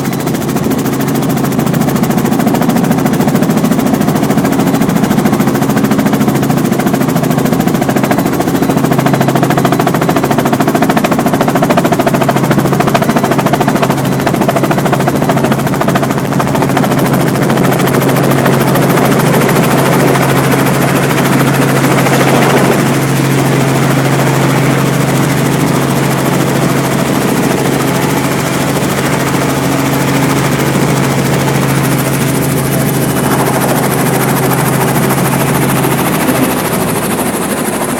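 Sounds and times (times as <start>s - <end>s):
helicopter engine humming: 0.0s - 37.9s
helicopter rotor chop: 0.0s - 37.9s.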